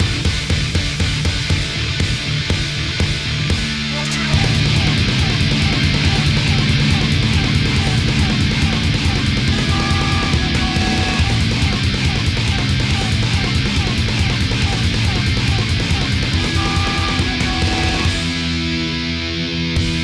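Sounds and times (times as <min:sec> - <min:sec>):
hardcore punk music: 0:00.0 - 0:20.0.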